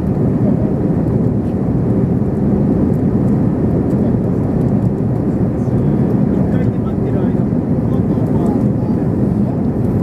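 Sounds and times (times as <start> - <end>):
jet engine and airflow roar: 0.0 - 10.0.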